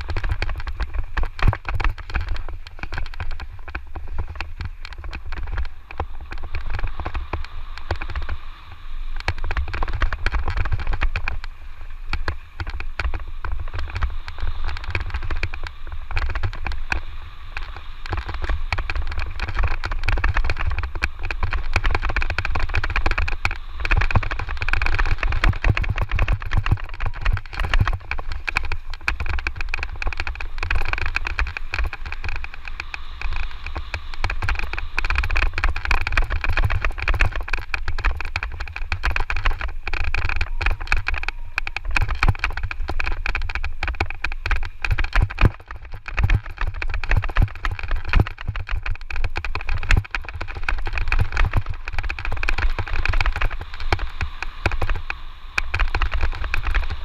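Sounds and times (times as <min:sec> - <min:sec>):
bike clattering over terrain: 0:00.0 - 0:08.4, 0:12.1 - 0:57.0
wind buffeting microphone: 0:00.0 - 0:57.0.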